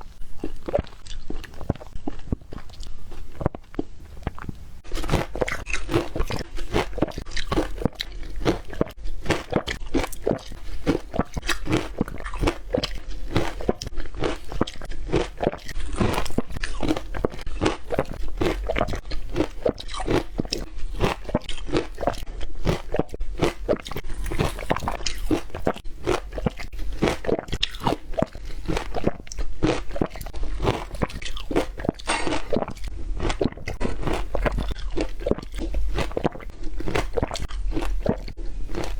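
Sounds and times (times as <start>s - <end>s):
ice cubes being chewed: 0.0s - 38.9s.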